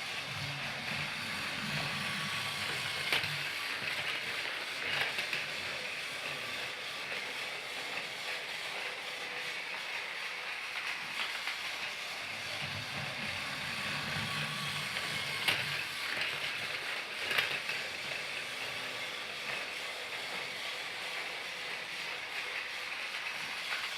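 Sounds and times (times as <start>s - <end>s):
toy train motor whirring: 0.0s - 23.9s.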